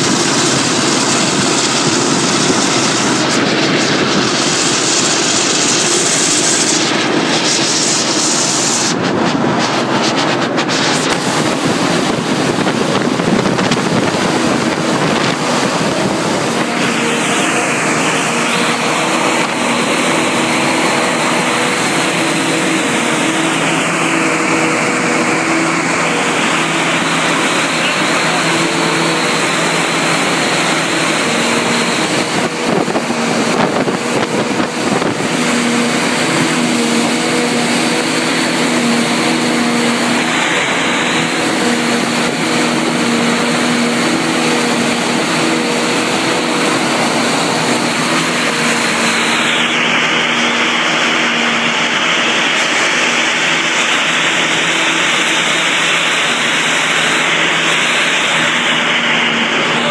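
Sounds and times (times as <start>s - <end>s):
farm machinery engine running: 0.0s - 59.9s.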